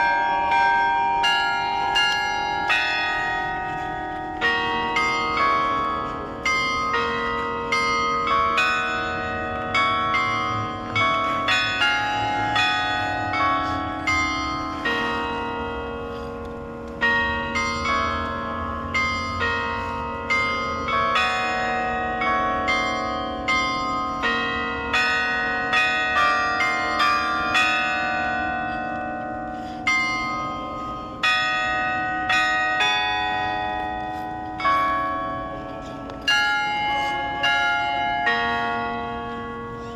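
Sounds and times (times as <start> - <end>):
carillon bells playing tune: 0.0 - 39.9.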